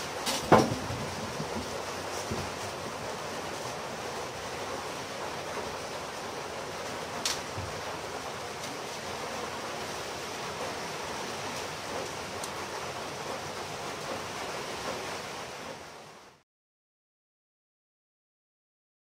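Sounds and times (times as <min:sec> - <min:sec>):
room noise hiss: 0:00.0 - 0:16.4.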